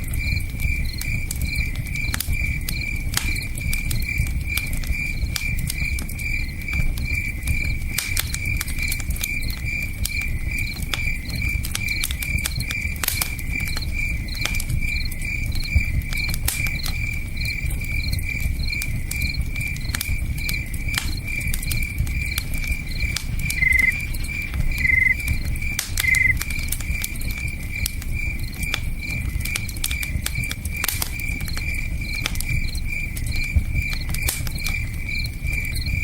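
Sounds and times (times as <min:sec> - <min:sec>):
campfire crackling and popping: 0:00.0 - 0:36.0
crickets chirping: 0:00.0 - 0:36.0.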